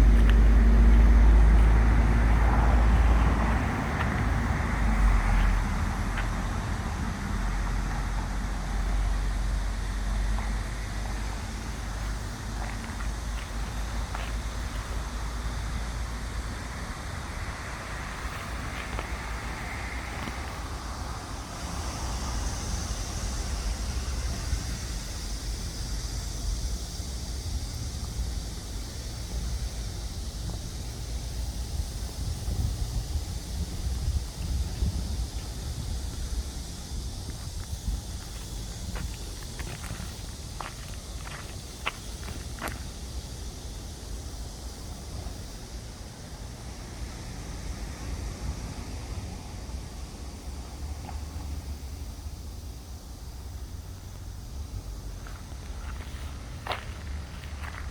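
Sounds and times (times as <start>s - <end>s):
low unsteady rumble: 0.0s - 46.7s
continuous high hiss: 0.0s - 57.9s.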